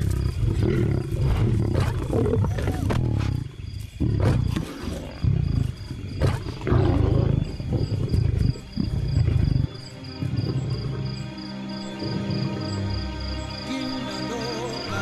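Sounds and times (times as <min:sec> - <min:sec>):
lions growling: 0:00.0 - 0:13.0.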